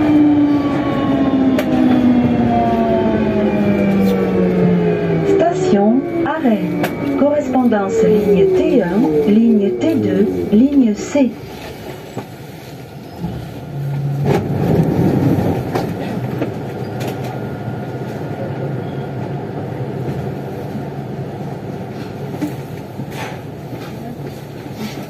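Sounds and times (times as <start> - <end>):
metro train hum: 0.0 - 25.0.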